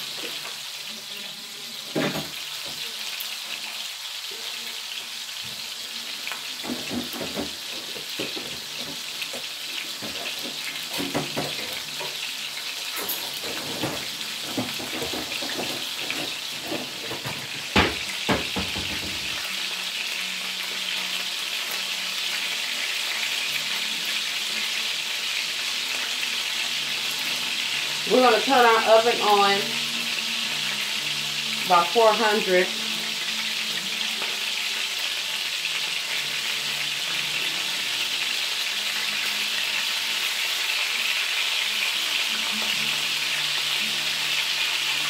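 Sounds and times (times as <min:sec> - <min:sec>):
meatballs sizzling in oil: 0:00.0 - 0:45.0.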